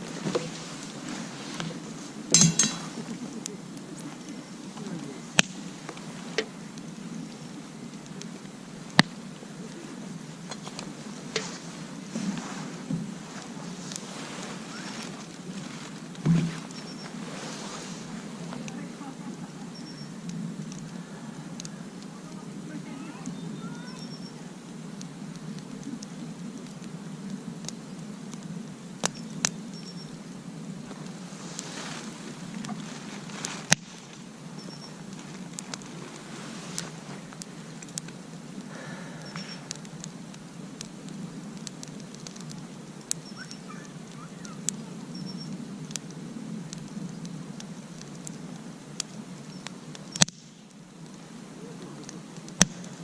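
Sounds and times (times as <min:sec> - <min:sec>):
sharp pops from fire: 0:00.0 - 0:22.4, 0:23.1 - 0:53.0
campfire crackling: 0:00.0 - 0:53.0.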